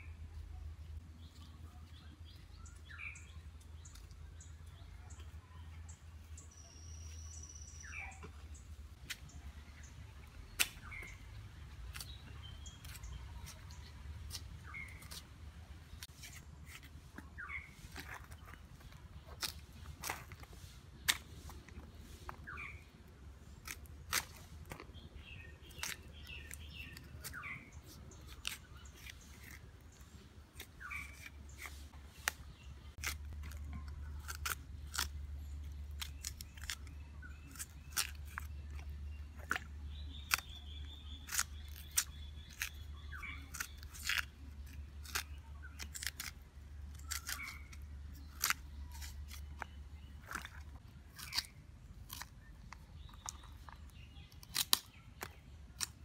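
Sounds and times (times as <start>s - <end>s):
birds chirping: 0.0s - 56.0s
knife peeling root skin: 8.9s - 56.0s.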